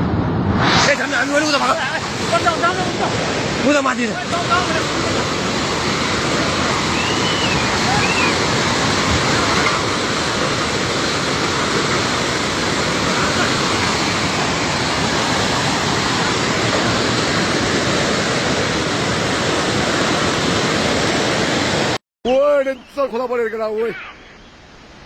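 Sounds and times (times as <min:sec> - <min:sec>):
river water roaring: 0:00.6 - 0:22.0.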